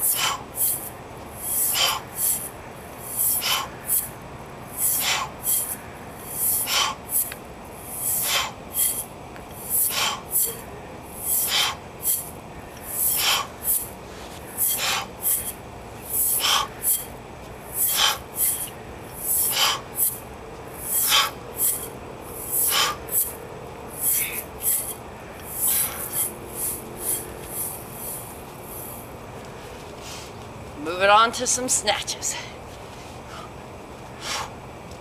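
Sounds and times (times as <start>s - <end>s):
woman breathing hard: 0.0s - 20.2s, 20.8s - 29.1s.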